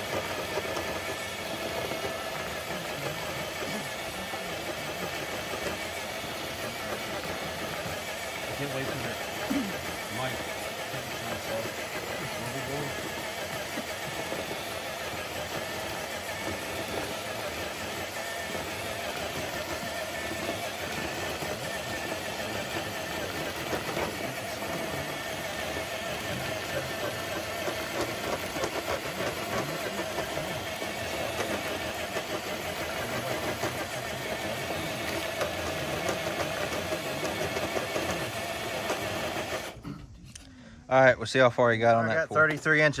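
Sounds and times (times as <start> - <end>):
electric motor and gears whining: 0.0 - 43.0.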